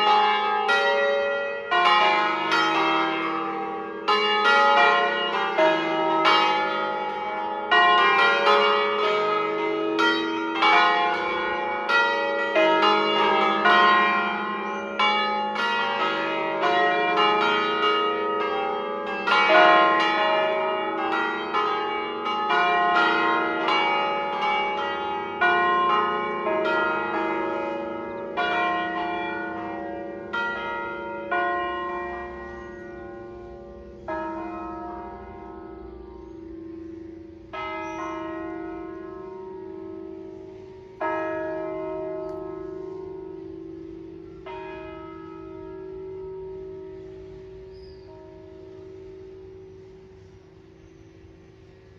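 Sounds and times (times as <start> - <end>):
church bells ringing: 0.0 - 51.9.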